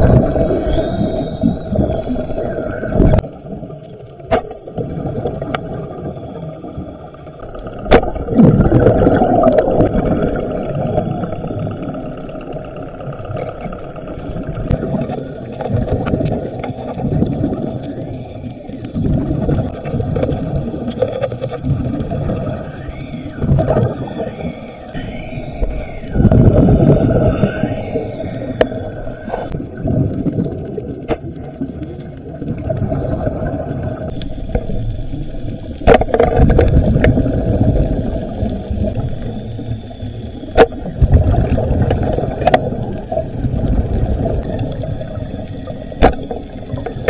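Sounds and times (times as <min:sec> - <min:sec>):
muffled underwater gurgling: 0:00.0 - 0:47.0.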